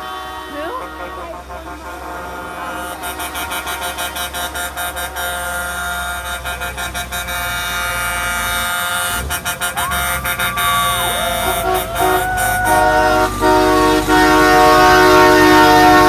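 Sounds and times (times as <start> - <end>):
passing vehicles hum: 0.0 - 16.0
truck air horns: 0.0 - 16.0.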